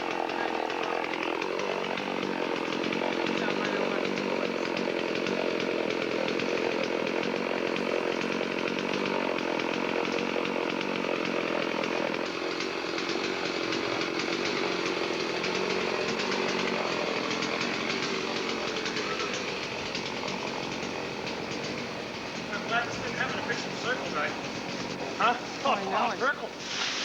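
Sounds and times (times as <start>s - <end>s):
chainsaw running: 0.0s - 27.0s.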